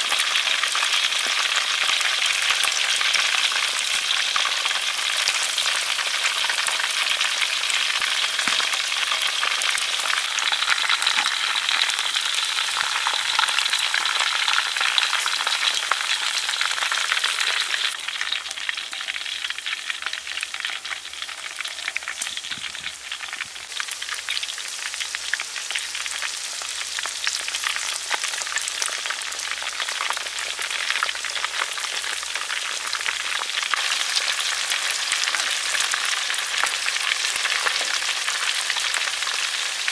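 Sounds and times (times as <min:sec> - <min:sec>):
food deep-frying in hot oil: 0:00.0 - 0:39.9.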